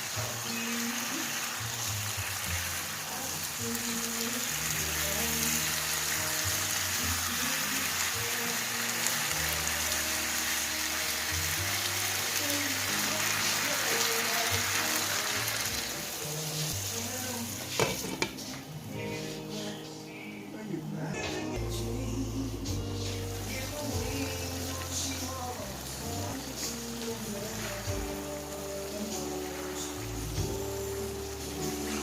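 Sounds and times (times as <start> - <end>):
food sizzling in hot oil: 0.0 - 19.8, 21.7 - 32.0
low background music: 0.0 - 32.0.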